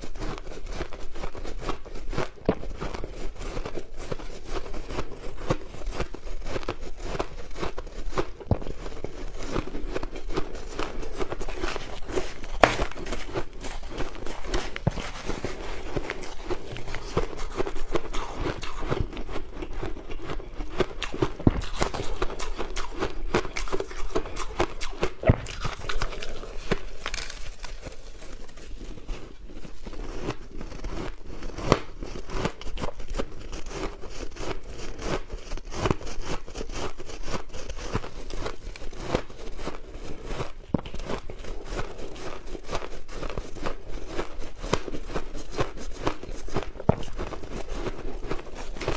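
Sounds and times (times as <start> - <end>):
chewing crushed ice: 0.0 - 48.9.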